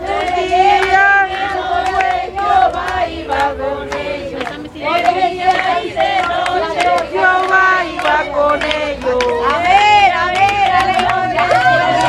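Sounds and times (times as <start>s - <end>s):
congregation singing in unison: 0.0s - 12.0s.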